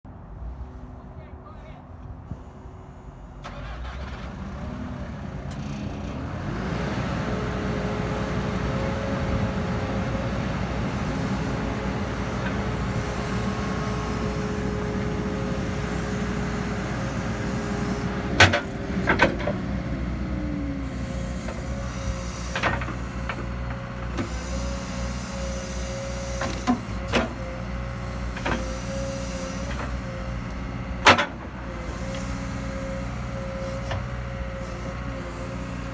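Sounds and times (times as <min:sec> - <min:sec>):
excavator diesel engine running: 0:02.4 - 0:35.9.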